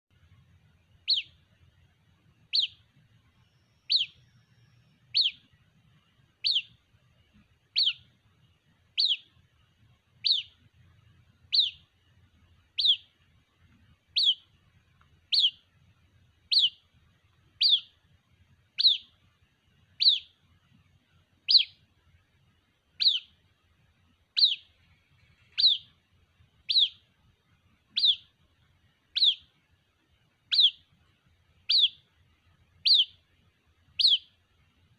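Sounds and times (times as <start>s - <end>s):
bird chick peeping: 0.1s - 22.0s, 22.8s - 23.6s, 24.2s - 27.2s, 27.8s - 29.6s, 30.4s - 31.0s, 31.6s - 33.3s, 33.9s - 34.6s.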